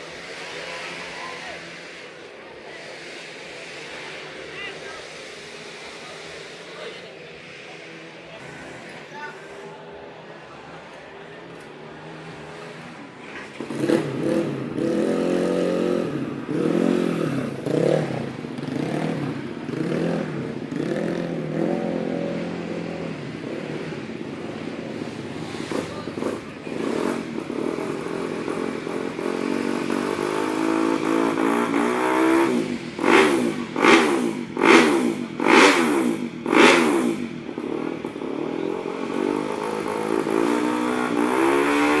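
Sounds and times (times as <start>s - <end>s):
motorbike engine revving: 0.0s - 42.0s.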